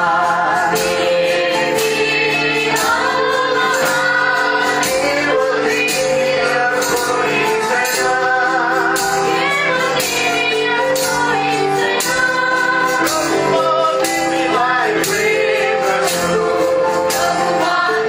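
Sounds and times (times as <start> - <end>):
sharp percussive beat: 0.0 - 18.0.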